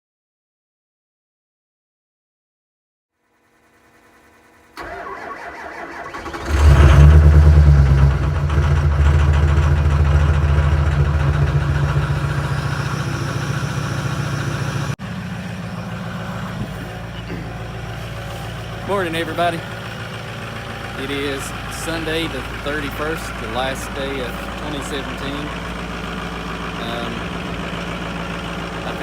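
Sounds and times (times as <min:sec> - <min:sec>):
truck engine cranking and idling: 0:03.7 - 0:29.0.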